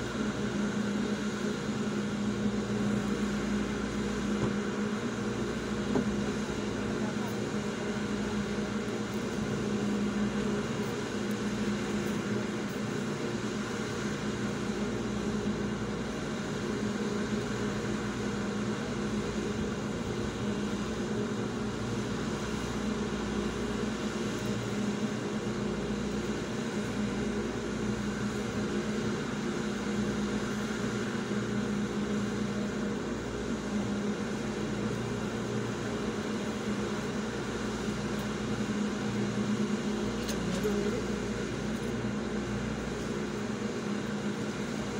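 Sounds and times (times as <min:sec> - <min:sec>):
machine hum with low drone: 0:00.0 - 0:44.9.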